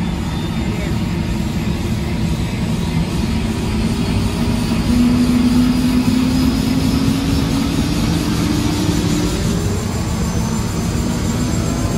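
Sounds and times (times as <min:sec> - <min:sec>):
helicopter engine and rotor rumble: 0:00.0 - 0:11.9
turbine whine: 0:00.0 - 0:11.9.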